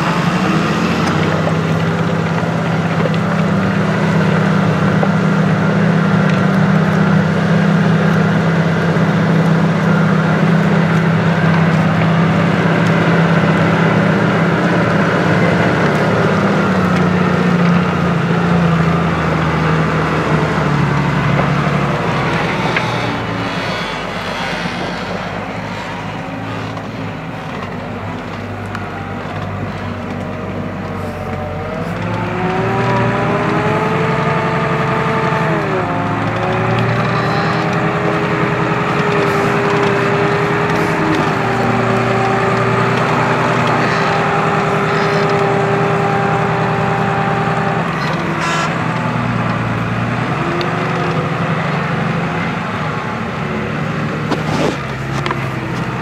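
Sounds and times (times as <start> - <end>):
tractor diesel engine under load: 0.0 - 56.0
whining tone: 0.0 - 56.0.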